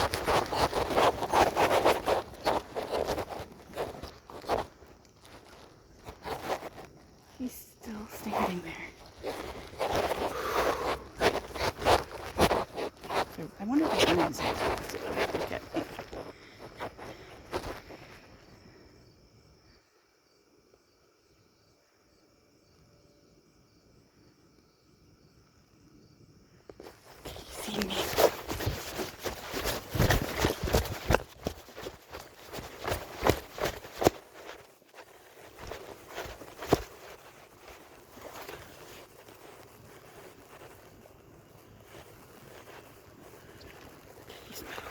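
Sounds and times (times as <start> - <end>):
footsteps outdoors: 0.0 - 18.6, 26.7 - 44.9
faint insects chirping: 0.0 - 44.9.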